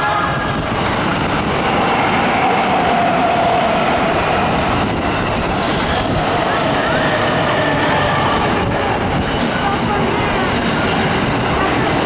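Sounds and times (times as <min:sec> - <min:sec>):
train passing close by: 0:00.0 - 0:12.0.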